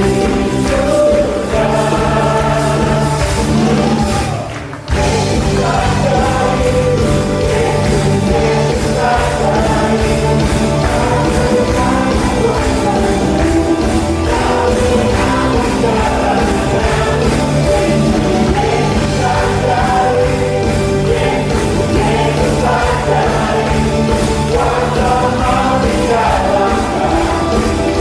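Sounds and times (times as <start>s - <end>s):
choir singing a praise song: 0.0s - 28.0s
drums keeping a steady beat: 0.0s - 28.0s
live band: 0.0s - 28.0s.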